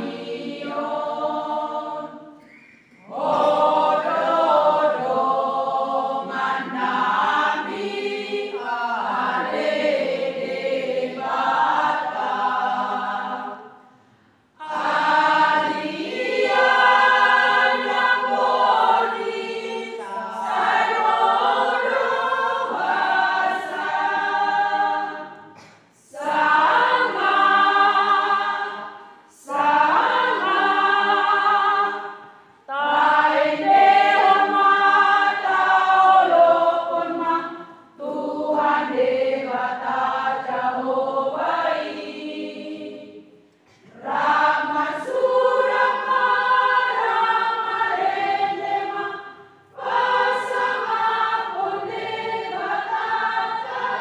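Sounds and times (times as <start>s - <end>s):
women's choir singing a hymn: 0.0s - 54.0s.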